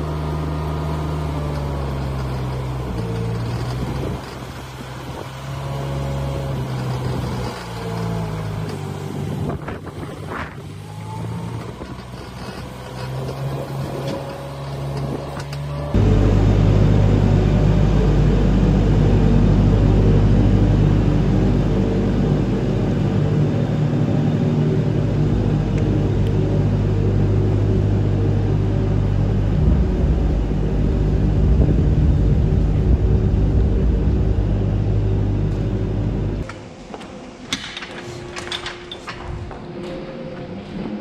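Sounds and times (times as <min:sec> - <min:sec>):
diesel engine droning: 0:00.0 - 0:41.0.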